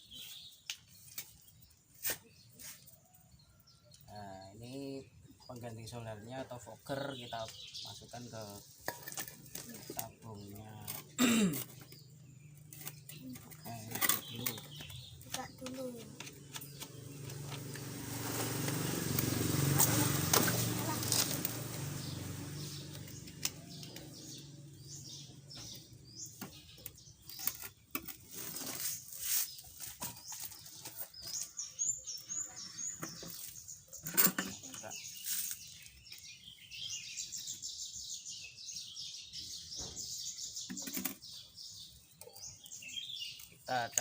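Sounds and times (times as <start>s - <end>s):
small birds chirping and singing: 0.0s - 44.0s.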